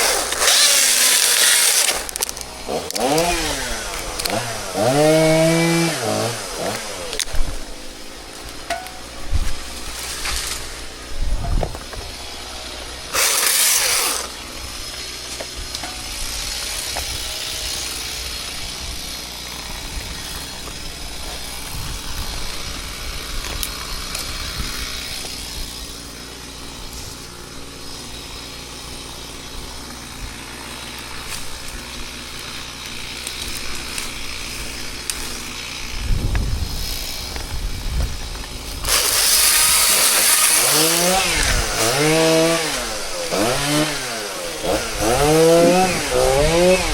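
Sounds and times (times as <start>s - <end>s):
chainsaw cutting: 0.0s - 46.9s.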